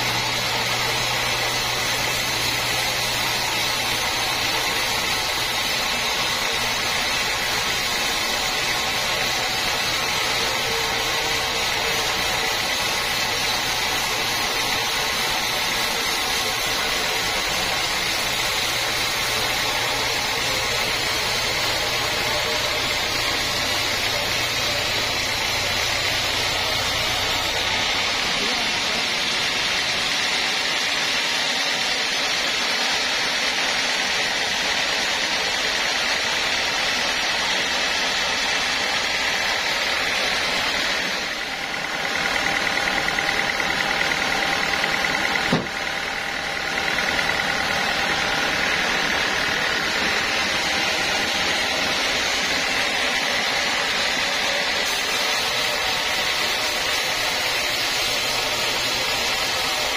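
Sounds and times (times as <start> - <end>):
band sawmill blade cutting log: 0.0 - 59.9.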